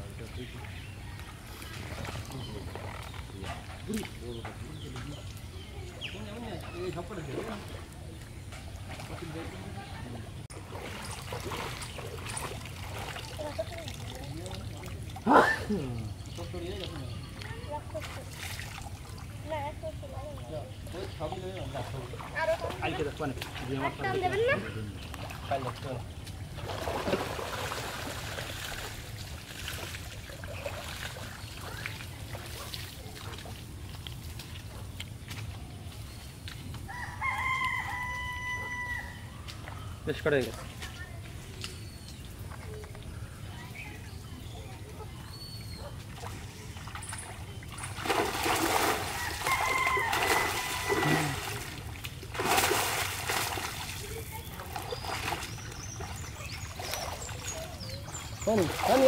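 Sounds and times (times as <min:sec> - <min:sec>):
small water splashes: 0:00.0 - 0:59.0
water trickling and sloshing: 0:00.0 - 0:59.0.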